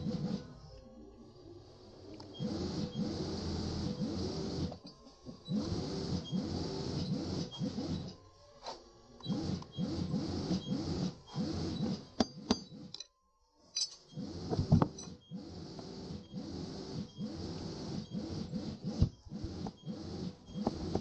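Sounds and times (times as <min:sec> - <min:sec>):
sewing machine running in pulses: 0:00.0 - 0:00.7, 0:01.6 - 0:13.0, 0:14.1 - 0:21.0.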